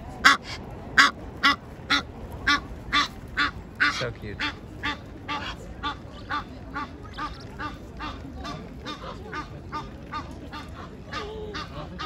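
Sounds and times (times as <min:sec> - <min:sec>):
goose calling: 0:00.2 - 0:12.0.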